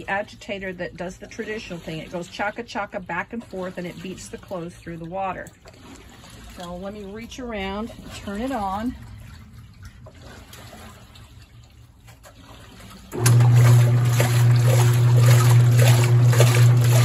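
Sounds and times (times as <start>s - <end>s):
washing machine agitating: 0.0s - 17.0s
water swishing: 0.0s - 17.0s.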